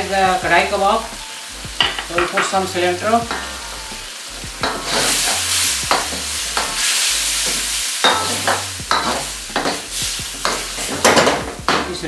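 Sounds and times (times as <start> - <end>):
sauce sizzling: 0.0 - 12.0
spoon scraping and knocking pan: 1.7 - 12.0.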